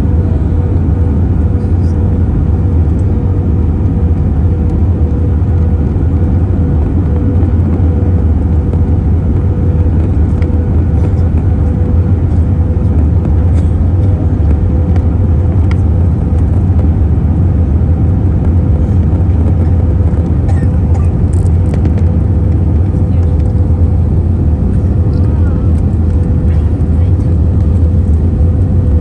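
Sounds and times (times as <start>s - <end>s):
airplane cabin engine roar: 0.0s - 29.0s
mid-pitched hum: 0.0s - 29.0s.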